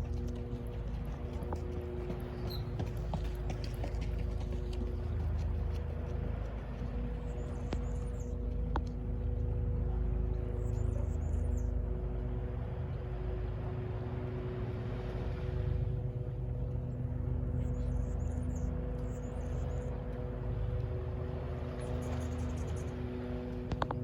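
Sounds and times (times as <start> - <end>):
distant city traffic rumble: 0.0 - 24.0
engine drone: 0.0 - 24.0.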